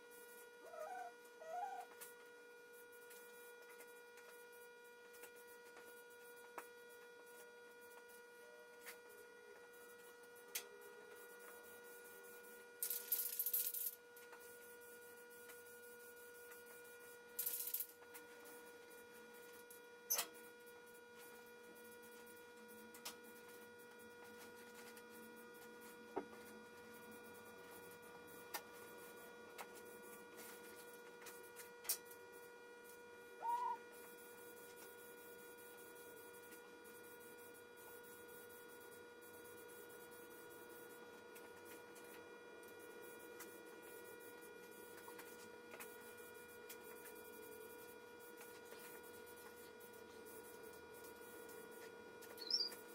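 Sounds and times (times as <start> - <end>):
faint electrical hum: 0.0 - 52.9.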